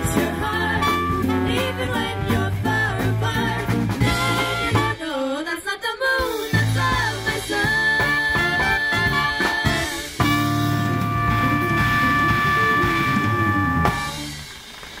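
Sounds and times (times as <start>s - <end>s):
swing band playing: 0.0s - 5.3s, 6.2s - 14.6s.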